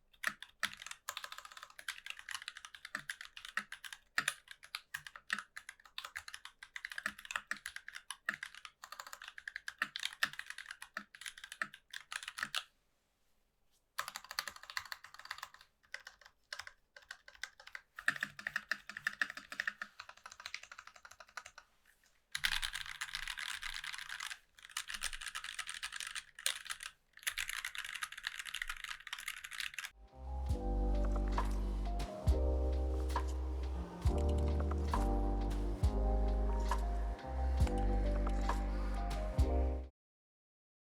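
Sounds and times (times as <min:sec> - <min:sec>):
mechanical keyboard typing: 0:00.0 - 0:12.7, 0:14.0 - 0:21.7, 0:22.4 - 0:39.5.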